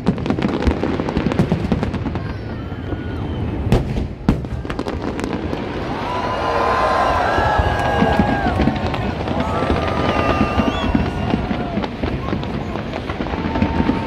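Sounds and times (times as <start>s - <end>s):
fireworks bangs and crackles: 0.0s - 14.0s
sharp loud fireworks reports: 0.0s - 14.0s.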